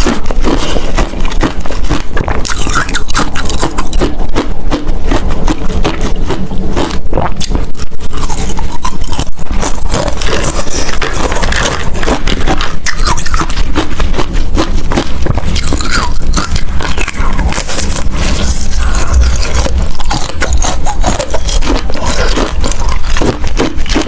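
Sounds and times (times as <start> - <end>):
person crunching ice: 0.0 - 24.0.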